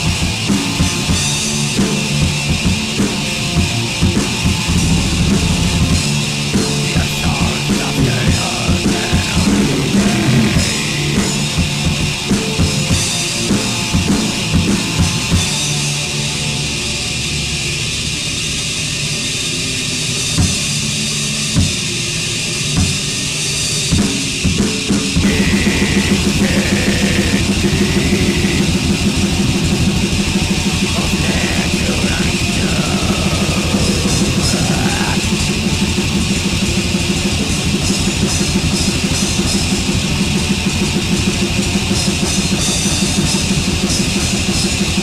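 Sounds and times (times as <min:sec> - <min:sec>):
black metal music: 0:00.0 - 0:19.2, 0:19.8 - 0:45.0
drums: 0:00.0 - 0:45.0.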